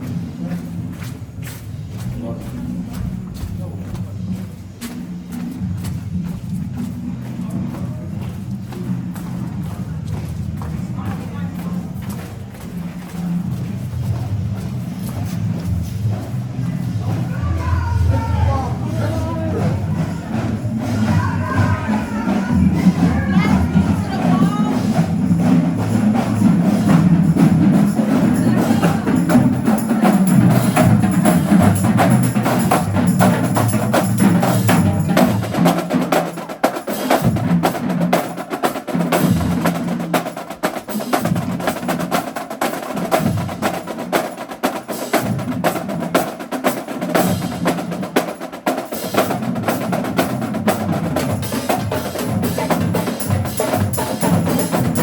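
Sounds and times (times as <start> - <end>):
rapid snare drum strokes: 0.0 - 55.0.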